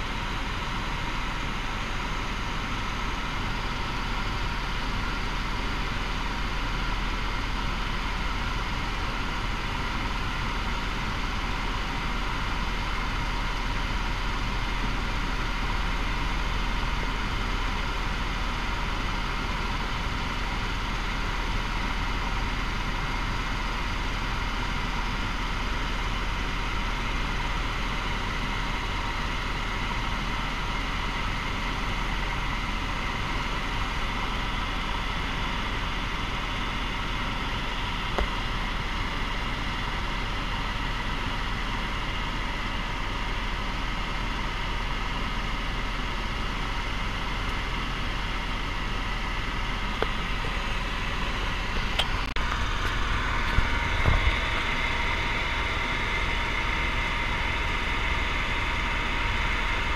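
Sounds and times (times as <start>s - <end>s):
helicopter drone inside cabin: 0.0s - 59.9s.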